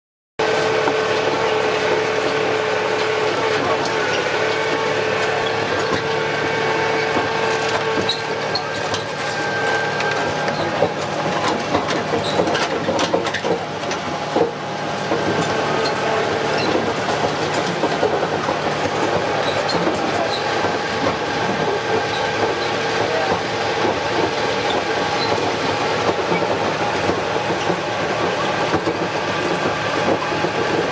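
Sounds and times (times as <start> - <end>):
engine droning whine: 0.4 - 30.9
vehicle frame rattling: 0.8 - 30.9.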